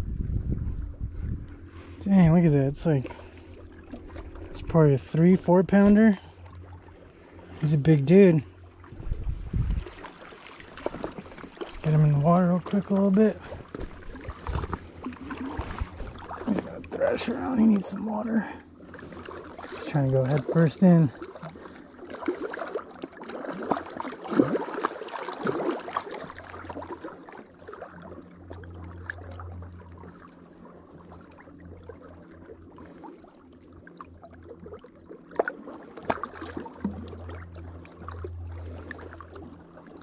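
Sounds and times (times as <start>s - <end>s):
water splashing and sloshing: 0.0s - 40.0s.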